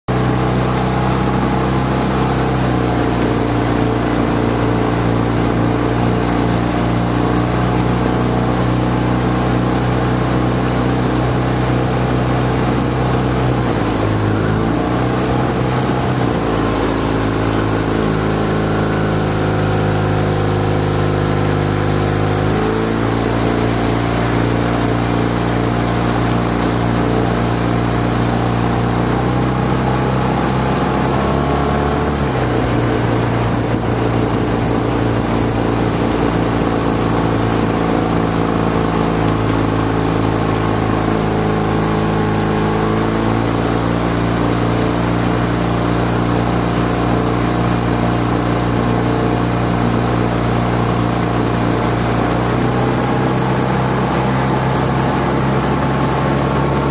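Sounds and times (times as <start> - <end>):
motorboat engine running: 0.1 - 56.9.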